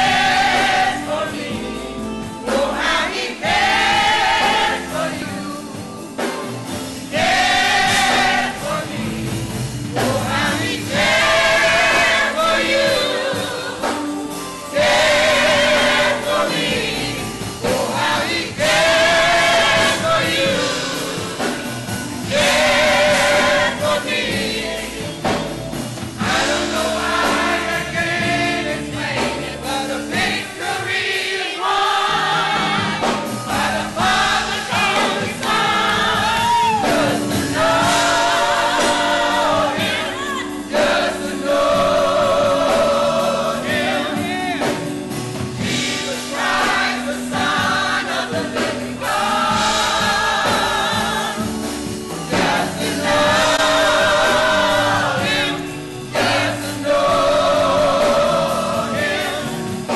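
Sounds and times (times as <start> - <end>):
gospel choir singing: 0.0 - 59.9
instrumental accompaniment: 0.0 - 59.9.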